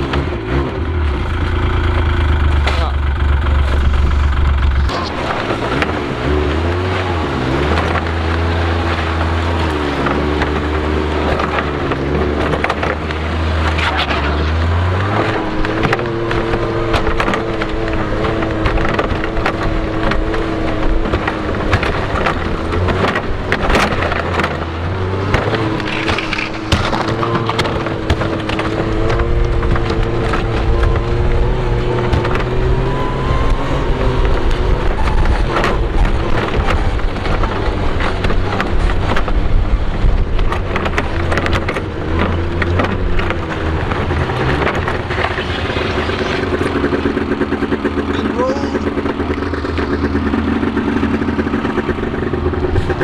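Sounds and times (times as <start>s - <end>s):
sled knocking and rattling: 0.0s - 53.0s
snowmobile engine: 0.0s - 53.0s.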